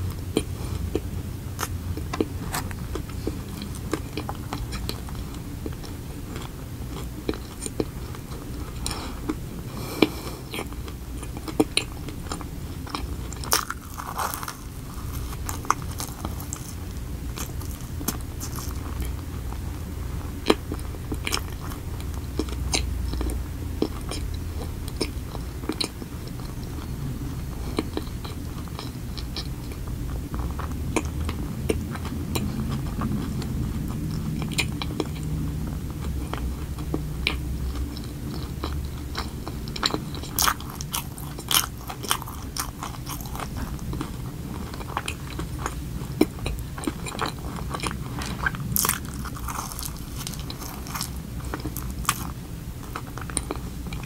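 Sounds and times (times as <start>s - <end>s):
chewing soft donut: 0.0s - 54.0s.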